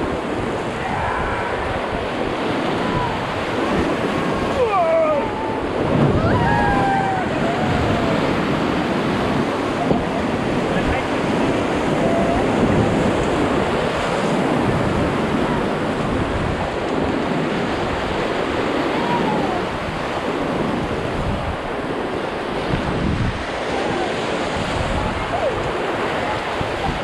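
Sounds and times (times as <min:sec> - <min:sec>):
river rushing: 0:00.0 - 0:27.0
wind buffeting microphone: 0:00.0 - 0:27.0.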